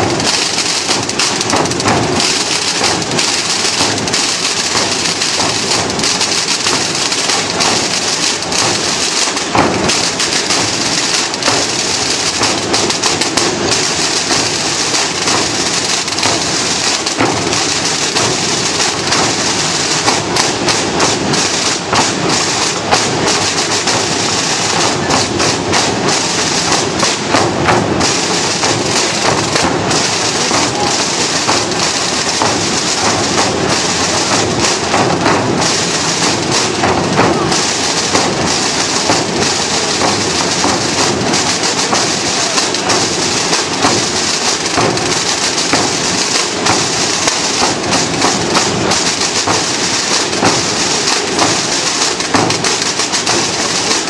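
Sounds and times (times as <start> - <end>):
marching drums rolling: 0.0 - 54.0.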